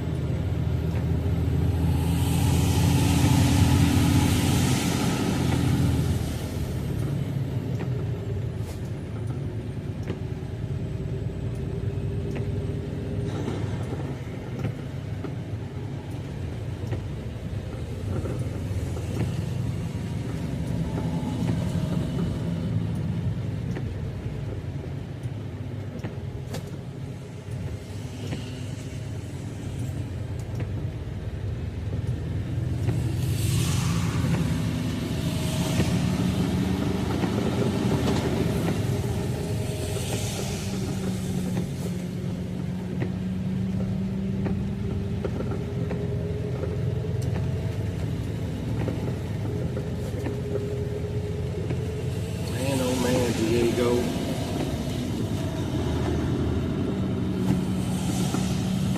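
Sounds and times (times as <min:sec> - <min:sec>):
truck engine and road rumble: 0:00.0 - 0:58.9.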